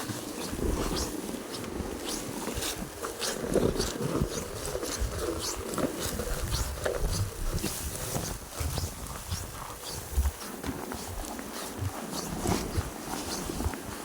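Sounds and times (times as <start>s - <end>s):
snow crunching: 0.0s - 14.0s.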